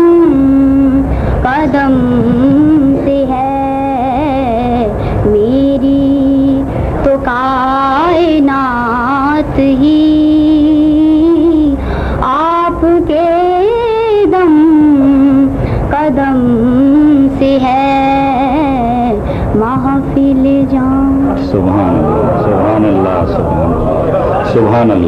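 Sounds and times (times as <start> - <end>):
girl singing solo: 0.0 - 21.5.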